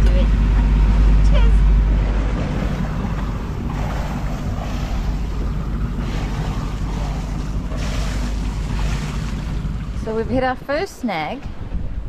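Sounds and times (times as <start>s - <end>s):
faint steady hum: 0.0s - 12.0s
wind buffeting microphone: 0.0s - 12.0s
waves washing past boat: 0.3s - 12.0s.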